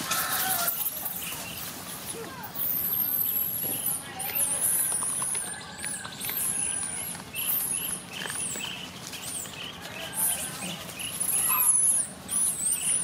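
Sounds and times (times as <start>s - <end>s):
high-pitched chirps and squeaks: 0.1s - 9.6s, 10.2s - 13.0s.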